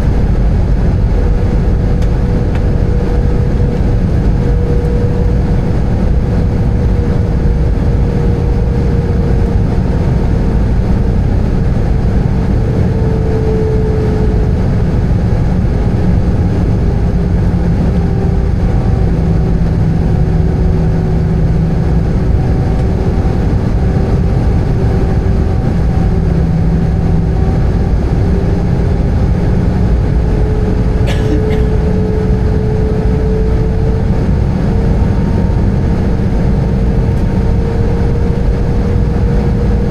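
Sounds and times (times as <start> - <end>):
aircraft cabin engine roar: 0.0 - 39.9
whining engine tone: 0.0 - 39.9.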